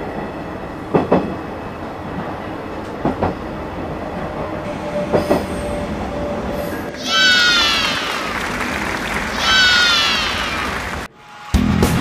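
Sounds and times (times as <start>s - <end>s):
freight train rumbling past: 0.0s - 11.8s.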